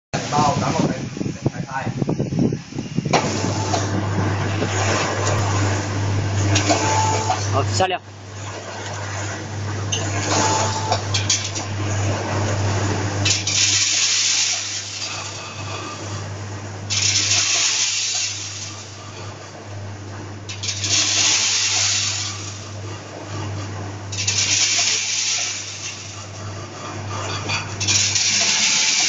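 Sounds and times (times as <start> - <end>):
packing machine hum: 0.2 - 29.0.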